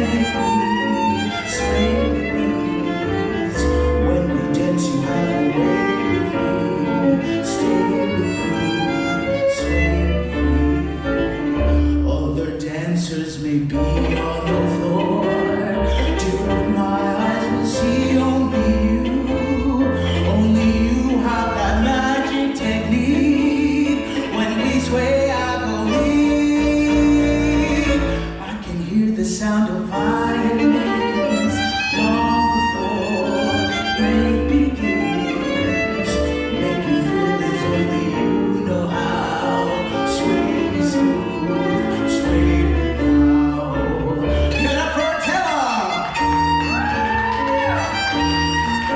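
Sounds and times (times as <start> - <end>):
violin melody: 0.0 - 12.7, 13.8 - 48.9
person singing: 0.0 - 48.9
piano: 0.0 - 48.9.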